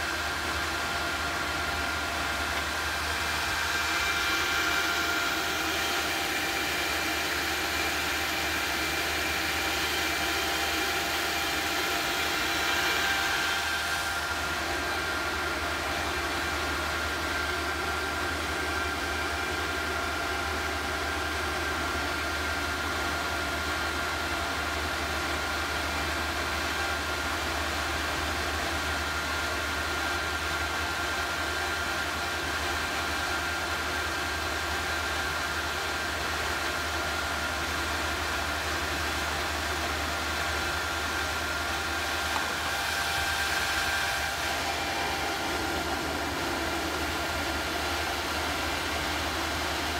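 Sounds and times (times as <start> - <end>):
induction heater and fans whirring: 0.0 - 49.9.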